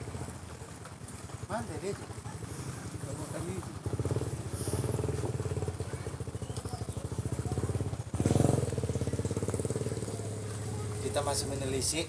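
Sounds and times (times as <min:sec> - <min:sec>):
small engine puttering: 0:00.1 - 0:12.0.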